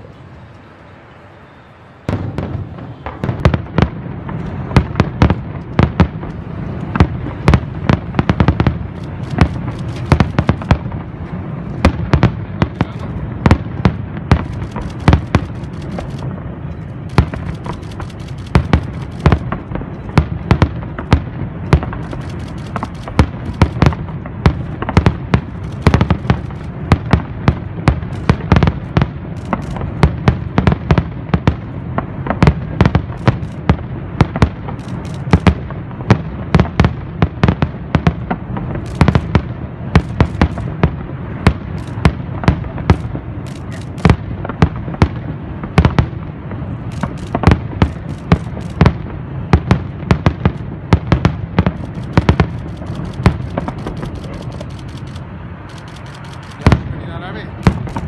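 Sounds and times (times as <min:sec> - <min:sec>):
fireworks cracks and bangs: 0:02.0 - 0:58.0.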